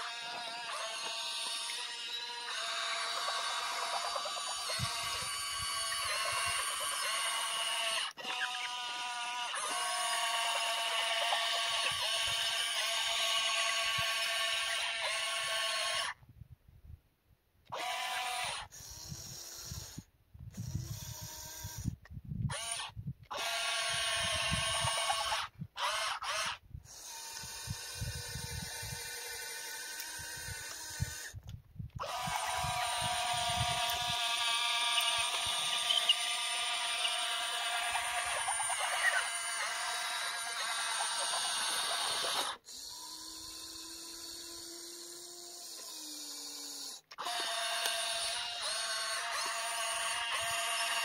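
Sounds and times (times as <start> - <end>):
electric motors whining: 0.0 - 16.2, 17.7 - 51.0.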